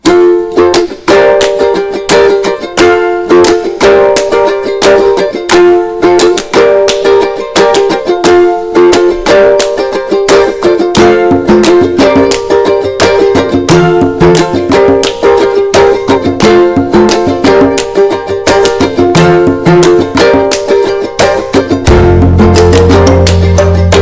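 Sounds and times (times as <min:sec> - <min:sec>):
strummed string instrument music: 0:00.0 - 0:24.0.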